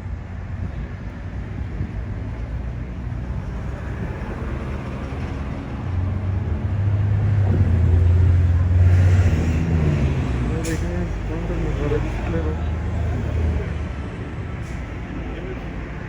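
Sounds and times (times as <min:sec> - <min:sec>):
street traffic: 0:00.0 - 0:16.0
vehicle engine rumbling: 0:00.0 - 0:16.0.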